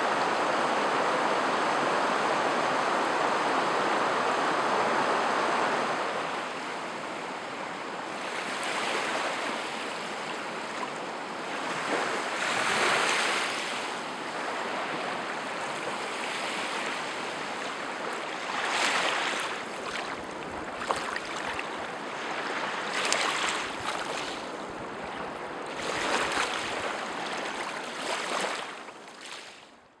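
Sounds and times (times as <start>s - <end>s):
waves breaking on shore: 0.0s - 29.7s.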